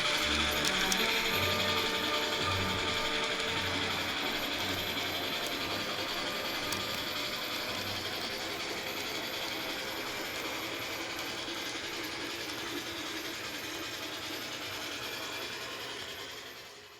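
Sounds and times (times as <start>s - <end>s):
model locomotive running: 0.0s - 16.9s.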